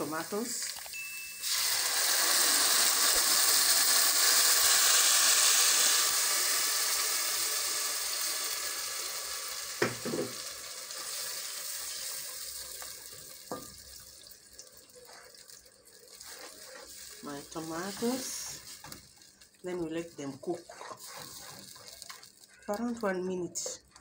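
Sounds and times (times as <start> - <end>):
tomatoes sizzling in hot oil: 0.0 - 23.7.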